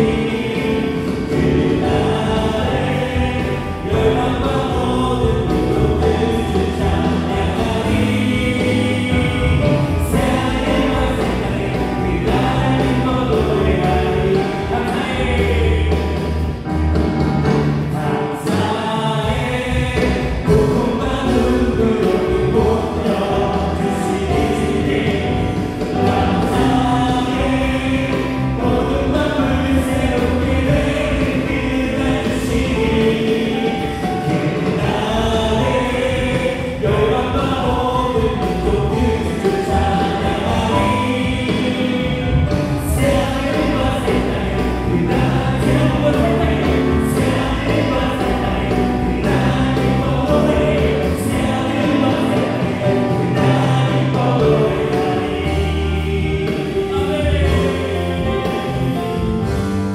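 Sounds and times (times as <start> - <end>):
band playing with singing: 0.0 - 59.9.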